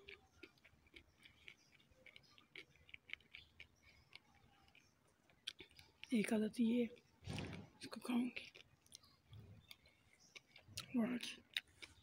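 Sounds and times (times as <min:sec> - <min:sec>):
person chewing fruit: 0:00.0 - 0:12.0.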